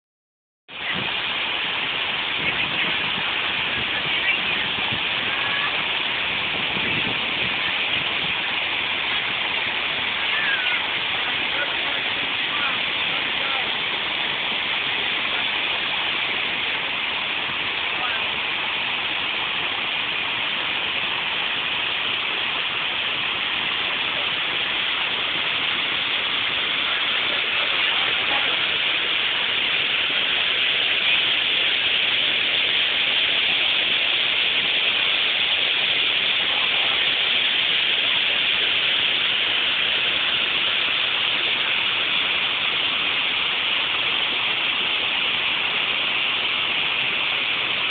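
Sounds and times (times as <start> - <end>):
water pouring over a dam: 0.7 - 47.9.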